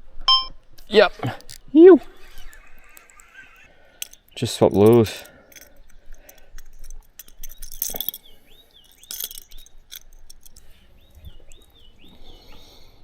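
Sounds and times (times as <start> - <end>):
metallic clinks of fishing hooks: 1.3 - 11.7.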